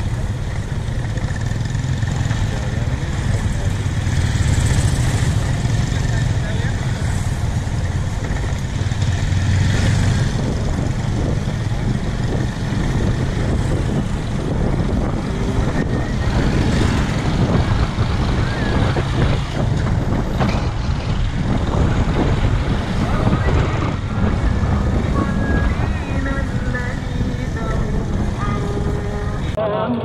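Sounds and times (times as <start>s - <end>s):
motorcycle engine: 0.0s - 30.0s
road noise: 0.0s - 30.0s.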